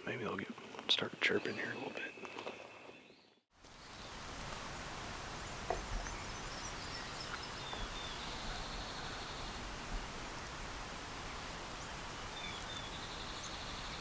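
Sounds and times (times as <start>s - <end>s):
outdoor background hiss: 0.0s - 2.7s, 3.5s - 14.0s
distant small birds chirping: 0.0s - 14.0s.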